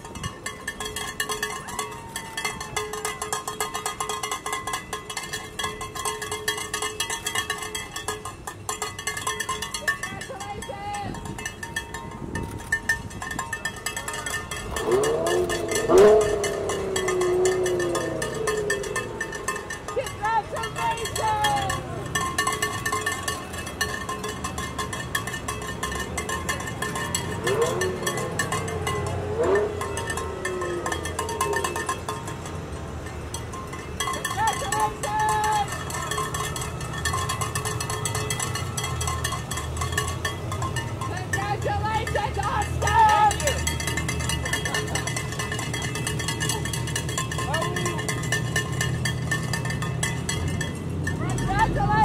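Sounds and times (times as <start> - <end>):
car engines rumbling: 0.0 - 52.0
metallic clinking and rattling: 0.0 - 52.0
steady ringing tone: 0.0 - 52.0.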